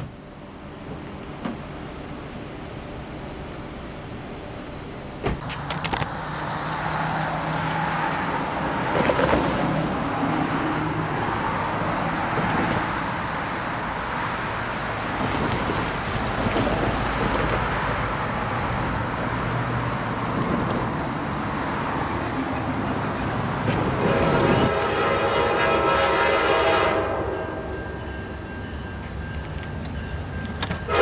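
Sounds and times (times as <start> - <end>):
cars passing: 1.1 - 31.0.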